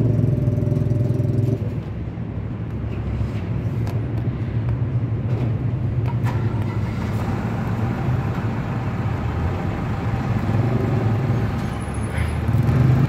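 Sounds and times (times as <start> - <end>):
low rumble of vehicle engines: 0.0 - 13.0.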